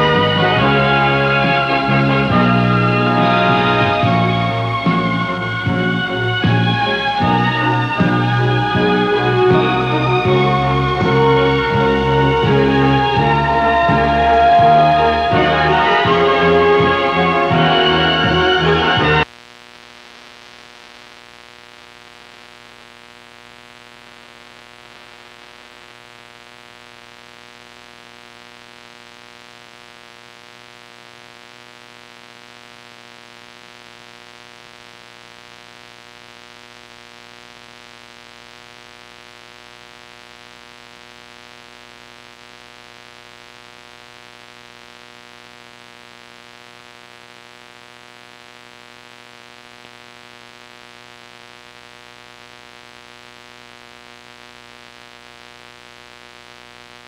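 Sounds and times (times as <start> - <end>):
tape hiss: 0.0 - 57.0.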